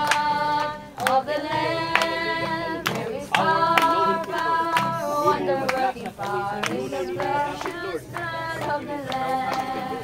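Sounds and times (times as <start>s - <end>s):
group singing a cappella: 0.0s - 10.0s
hands clapping: 0.0s - 10.0s.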